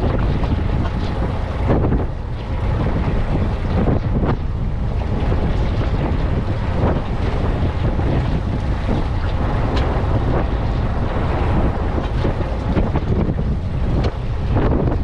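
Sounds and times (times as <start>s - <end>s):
water splashing against hull: 0.0s - 15.0s
wind rumbling on microphone: 0.0s - 15.0s.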